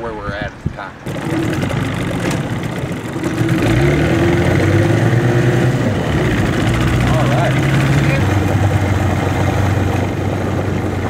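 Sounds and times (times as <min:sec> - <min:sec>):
small outboard motor running: 0:01.0 - 0:11.0.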